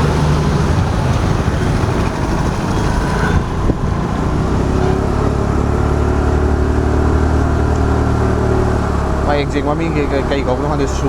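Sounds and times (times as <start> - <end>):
motor scooter engine hum: 0.0 - 11.0
road rumble: 0.0 - 11.0.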